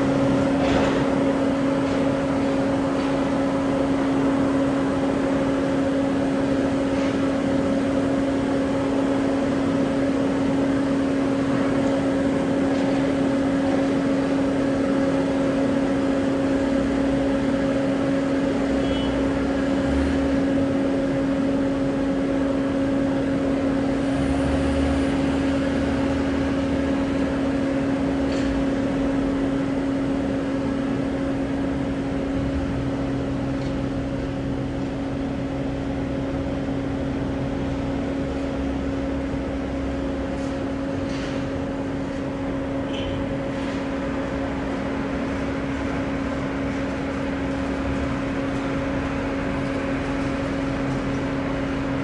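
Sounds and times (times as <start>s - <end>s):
machinery drone: 0.0s - 52.0s.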